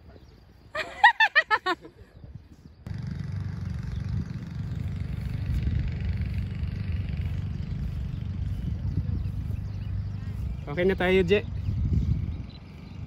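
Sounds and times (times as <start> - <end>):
wind buffeting microphone: 2.0 - 13.0.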